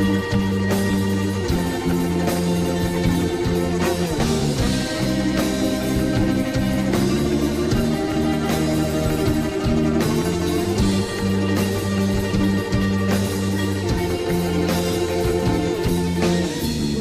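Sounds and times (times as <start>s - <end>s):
drums: 0.0s - 17.0s
electric guitar: 0.0s - 17.0s.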